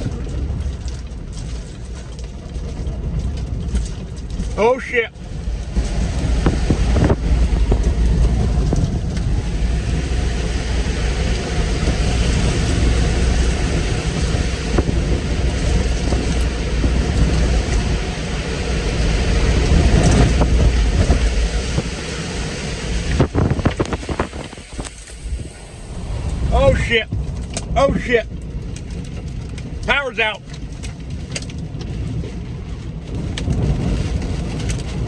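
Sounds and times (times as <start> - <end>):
tornado winds roaring: 0.0 - 35.0.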